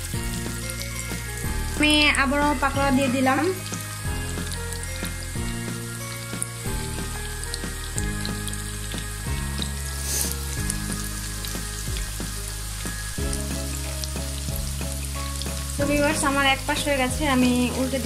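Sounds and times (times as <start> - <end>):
food deep-frying in hot oil: 0.0 - 18.0
oil popping and crackling: 0.0 - 18.0.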